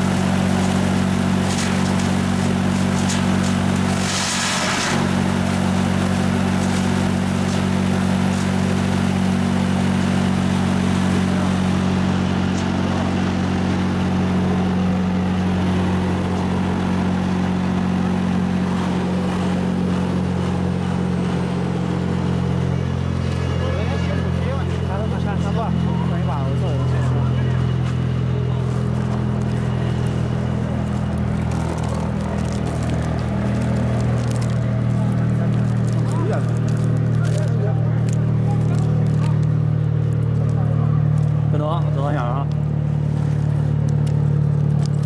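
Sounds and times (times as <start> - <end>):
wood chipper engine drone: 0.0 - 45.0.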